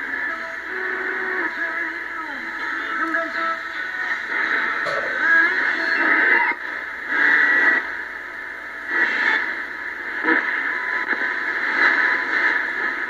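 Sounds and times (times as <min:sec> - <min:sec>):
radio static: 0:00.0 - 0:13.0
thin radio broadcast audio: 0:00.0 - 0:13.0.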